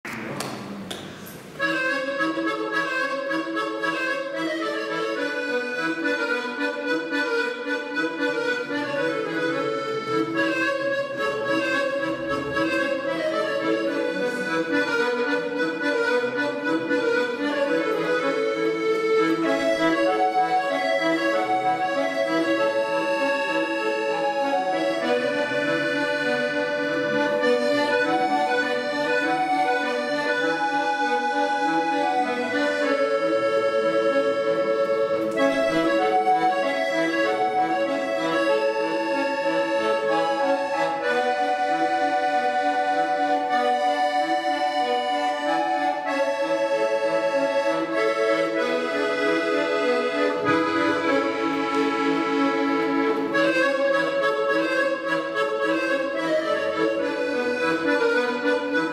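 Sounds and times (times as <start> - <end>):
accordion melody with bass chords: 0.0 - 58.9.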